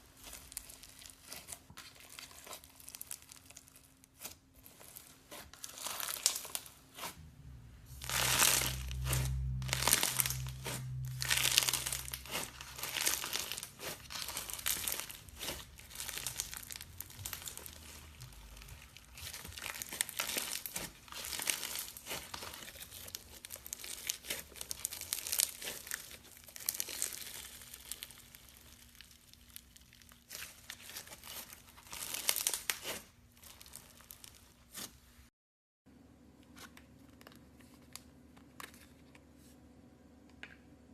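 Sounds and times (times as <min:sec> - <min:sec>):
hands squishing slime: 0:00.0 - 0:07.3, 0:07.9 - 0:35.2.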